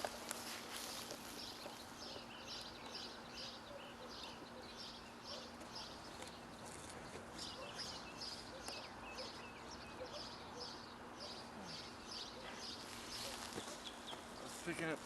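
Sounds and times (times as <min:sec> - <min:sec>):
small bird chirping: 0:00.0 - 0:14.9
outdoor background noise: 0:00.0 - 0:15.0.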